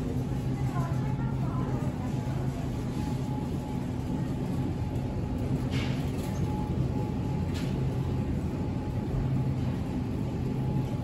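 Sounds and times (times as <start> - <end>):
refrigeration hum: 0.0 - 11.0.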